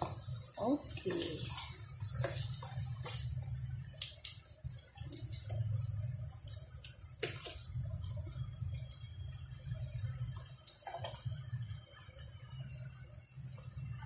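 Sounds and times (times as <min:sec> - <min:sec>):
oil sizzling in a frying pan: 0:00.0 - 0:14.0.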